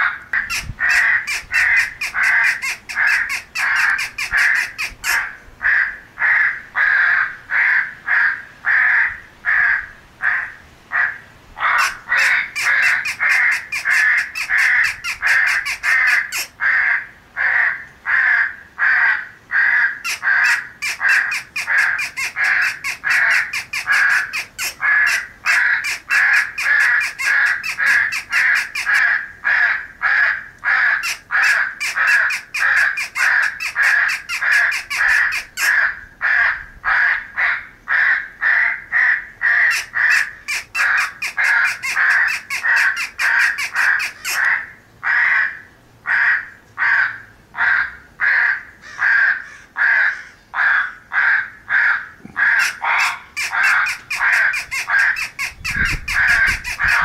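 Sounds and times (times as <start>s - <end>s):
crows cawing: 0.0s - 57.0s.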